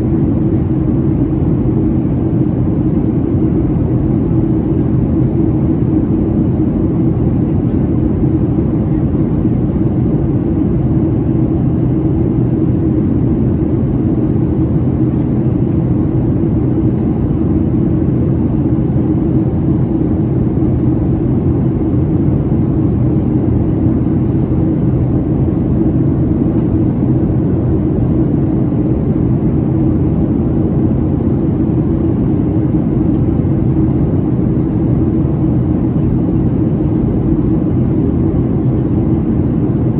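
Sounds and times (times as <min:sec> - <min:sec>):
airplane cabin airflow rush: 0:00.0 - 0:39.9.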